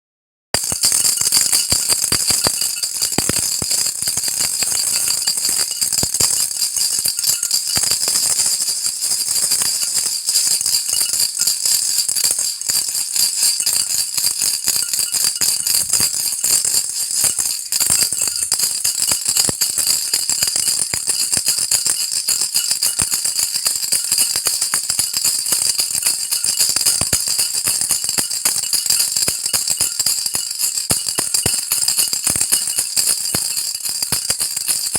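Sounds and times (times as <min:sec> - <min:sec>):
baby rattle shaken: 0:00.6 - 0:34.9.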